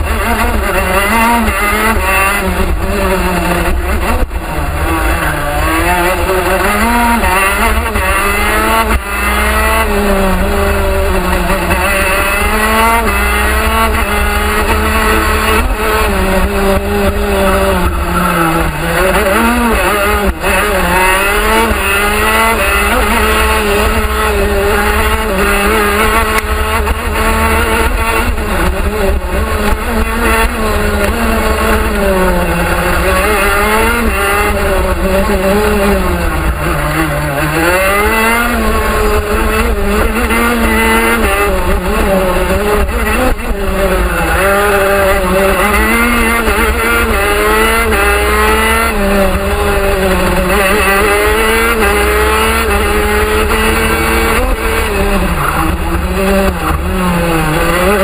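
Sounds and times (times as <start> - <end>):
two-stroke kart engine revving: 0.0 - 58.0.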